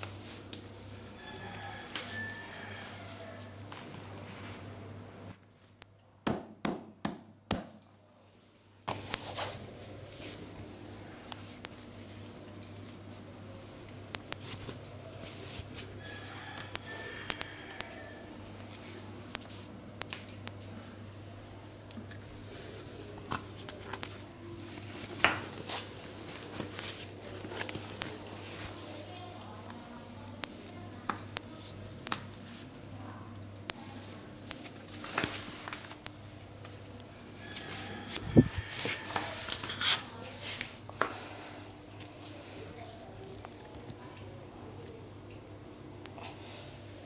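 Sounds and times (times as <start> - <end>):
steady low hum: 7.3 - 47.0.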